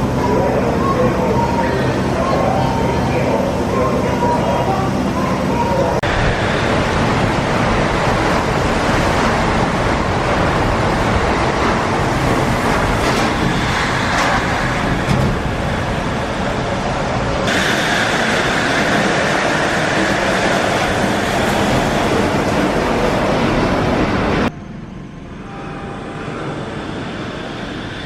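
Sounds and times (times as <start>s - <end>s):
monorail car rumbling: 0.0s - 28.0s.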